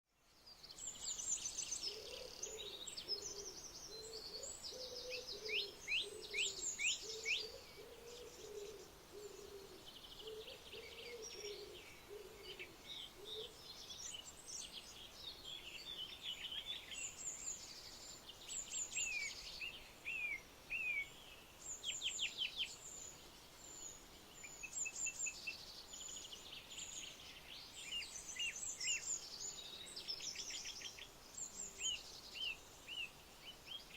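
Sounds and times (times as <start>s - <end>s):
birds chirping and singing: 0.8s - 33.9s.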